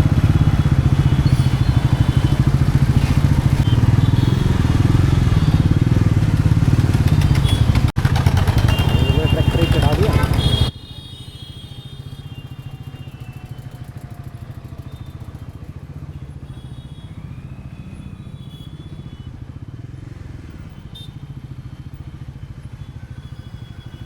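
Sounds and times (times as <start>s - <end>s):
motorcycle engine running: 0.0s - 10.7s, 12.0s - 24.0s.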